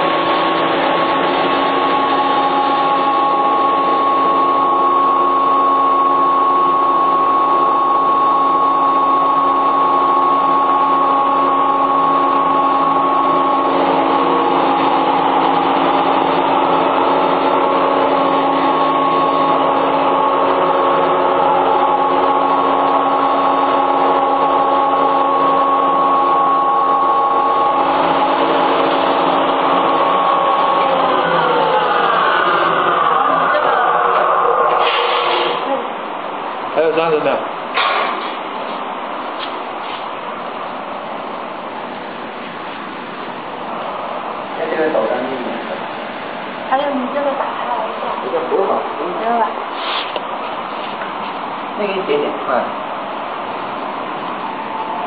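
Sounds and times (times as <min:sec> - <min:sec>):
grinding mill motor hum: 0:00.0 - 0:55.0.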